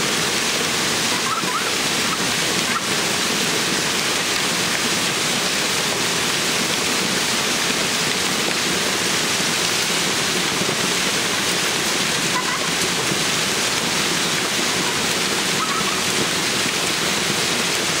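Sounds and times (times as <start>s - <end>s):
hailstones pelting down: 1.9s - 18.0s.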